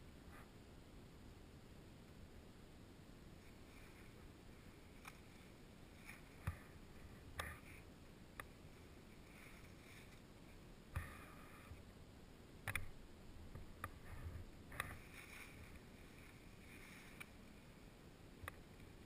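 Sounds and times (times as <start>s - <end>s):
faint hiss: 0.0s - 19.0s.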